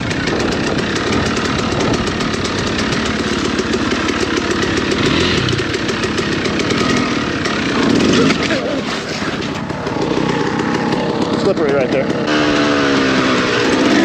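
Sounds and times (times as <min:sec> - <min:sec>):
two-stroke dirt bike engine: 0:00.0 - 0:14.0.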